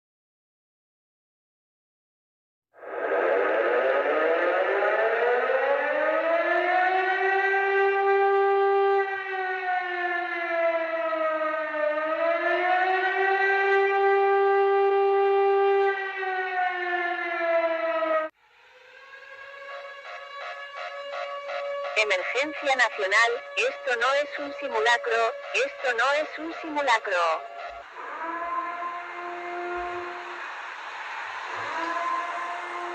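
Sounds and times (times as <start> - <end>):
civil defense siren wailing: 2.8 - 32.9.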